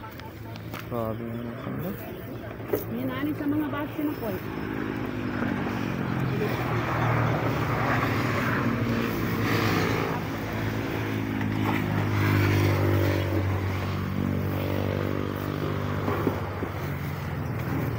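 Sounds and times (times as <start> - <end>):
vehicle engine running: 0.0 - 17.9.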